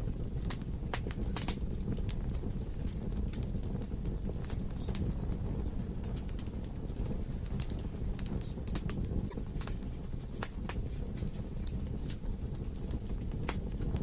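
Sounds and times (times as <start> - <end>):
fire rumbling: 0.0 - 14.0
wood crackling and popping: 0.0 - 14.0.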